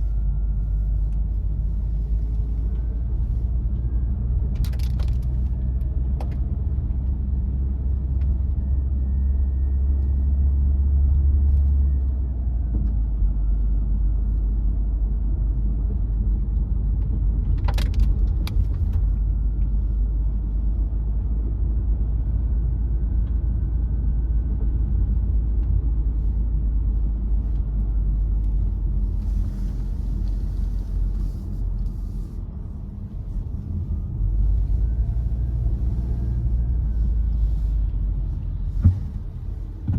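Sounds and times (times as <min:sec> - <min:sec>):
engine and tyre rumble: 0:00.0 - 0:39.9.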